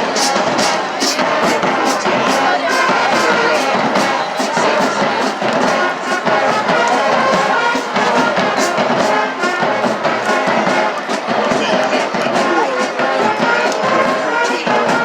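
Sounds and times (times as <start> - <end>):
brass band playing: 0.0 - 15.0
steady drum beat: 0.0 - 15.0.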